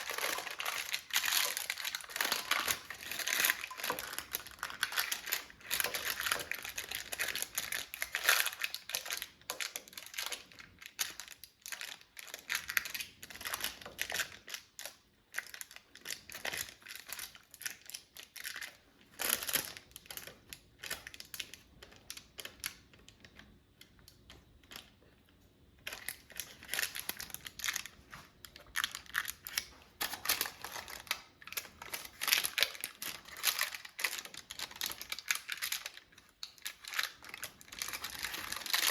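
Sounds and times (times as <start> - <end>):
parchment paper crinkling: 0.0 - 38.9.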